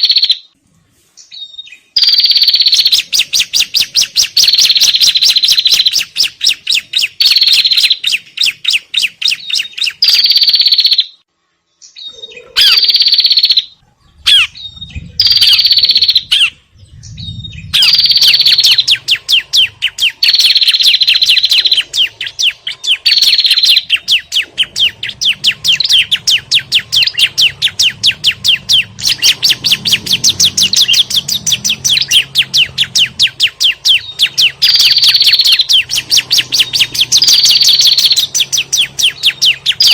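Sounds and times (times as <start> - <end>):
bird alarm chatter: 0.0 - 0.6, 1.2 - 11.2, 11.9 - 39.9.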